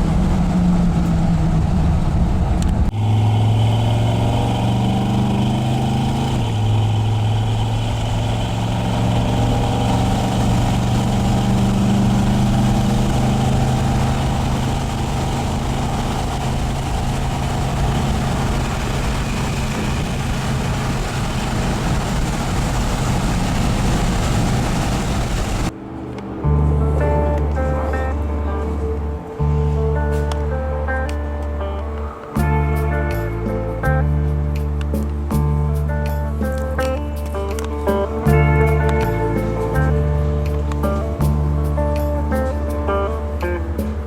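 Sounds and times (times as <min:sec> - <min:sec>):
vee eight engine running: 0:00.0 - 0:44.0.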